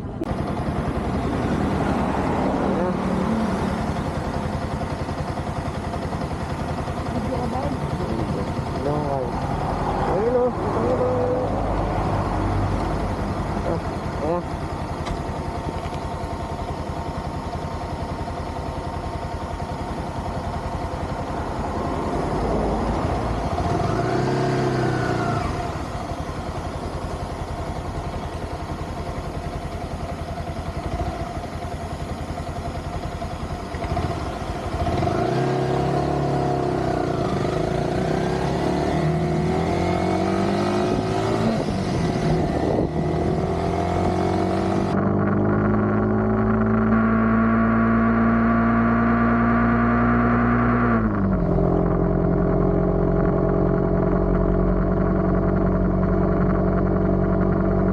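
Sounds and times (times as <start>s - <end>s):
wind and road noise: 0.0s - 32.3s, 33.8s - 57.9s
motorcycle engine running: 0.0s - 57.9s.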